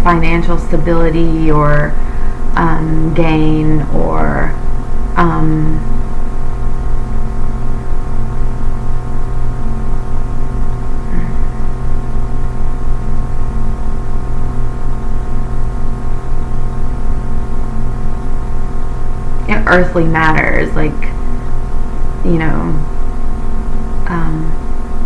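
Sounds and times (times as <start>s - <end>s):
ambient drone: 0.0s - 25.0s.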